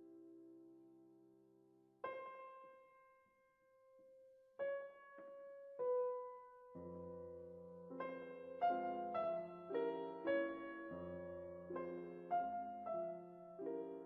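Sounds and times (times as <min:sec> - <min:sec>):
piano background music: 0:00.0 - 0:14.0.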